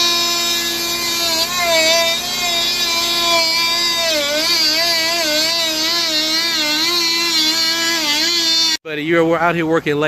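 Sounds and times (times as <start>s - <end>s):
oscillating multi-tool buzzing: 0.0s - 8.8s.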